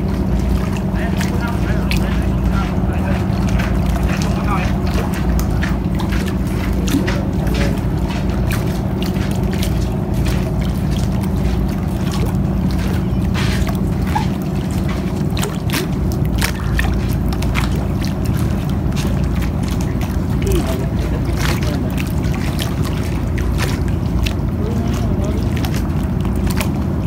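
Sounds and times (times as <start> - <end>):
steady low rumble: 0.0 - 27.0
water lapping against concrete: 0.0 - 27.0.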